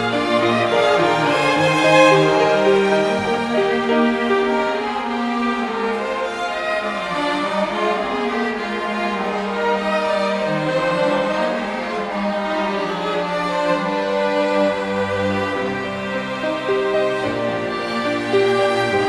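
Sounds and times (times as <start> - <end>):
violin ensemble playing: 0.0 - 19.0.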